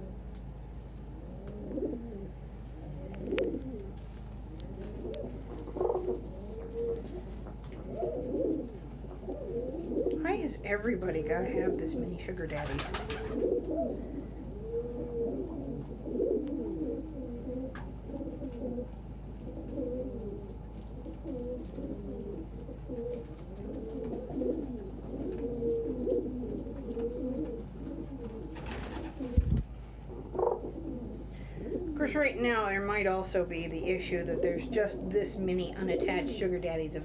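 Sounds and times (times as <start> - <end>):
pigeons cooing: 1.0 - 37.0.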